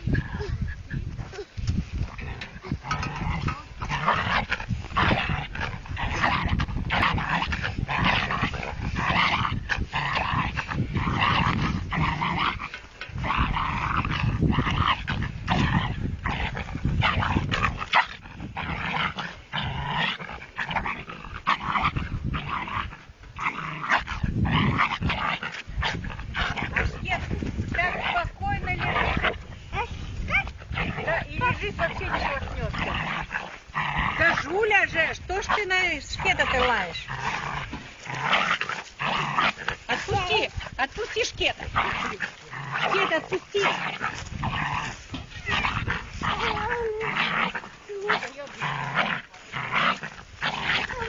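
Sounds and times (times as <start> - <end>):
small dog growling: 0.0 - 34.7, 35.4 - 51.0.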